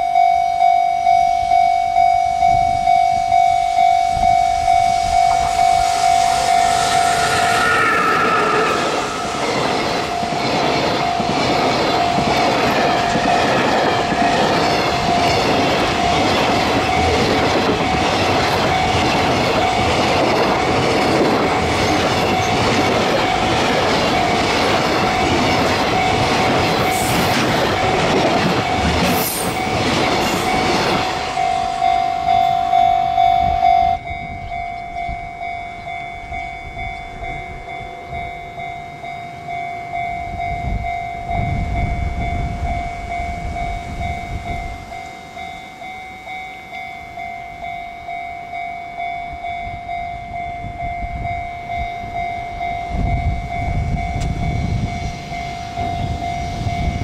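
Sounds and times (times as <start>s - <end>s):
electric locomotive passing: 0.0s - 57.0s
level crossing warning bell: 0.0s - 57.0s.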